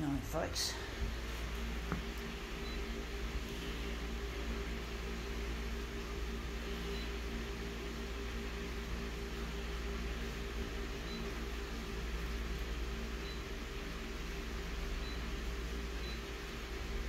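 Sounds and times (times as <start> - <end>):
photocopier humming: 0.0 - 17.0.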